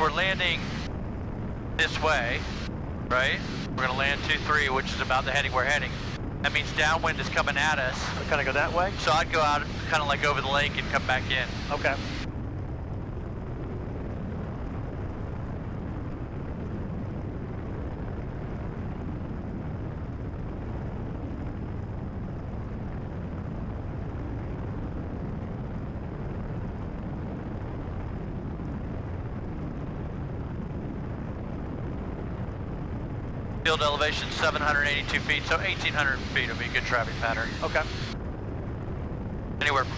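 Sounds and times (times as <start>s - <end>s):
aircraft engine and propeller: 0.0s - 17.4s, 25.0s - 39.9s.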